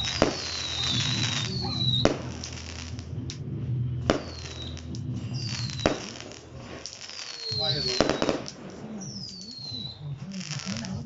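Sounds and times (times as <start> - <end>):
fireworks bangs: 0.0 - 11.0
fireworks whistling: 0.0 - 11.0.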